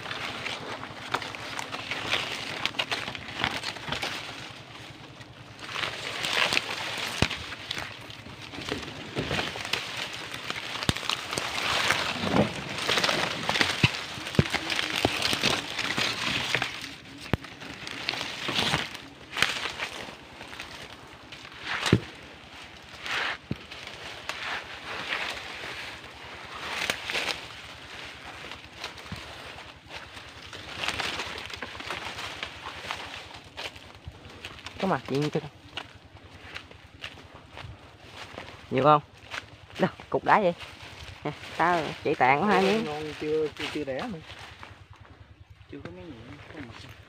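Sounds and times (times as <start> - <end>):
stems snapping: 0.0 - 45.0
dry leaves rustling and crackling: 0.0 - 47.0.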